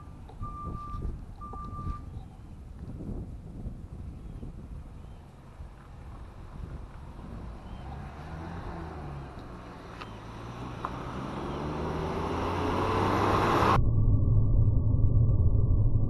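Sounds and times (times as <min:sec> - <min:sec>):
van engine and tyre noise: 0:00.0 - 0:13.8.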